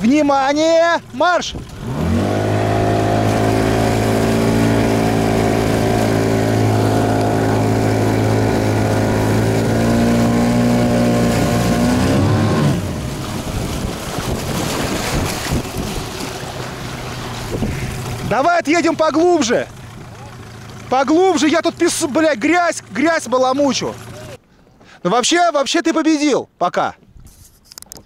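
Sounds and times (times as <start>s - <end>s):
water splashing: 0.0s - 24.4s
outboard motor running: 0.0s - 24.9s
wind: 0.0s - 28.0s.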